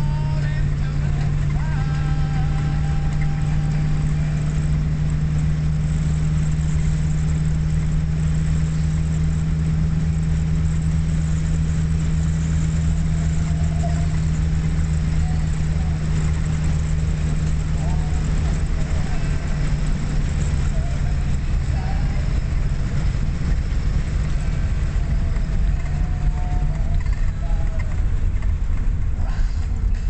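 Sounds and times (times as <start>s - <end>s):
car engine low drone: 0.0s - 30.0s.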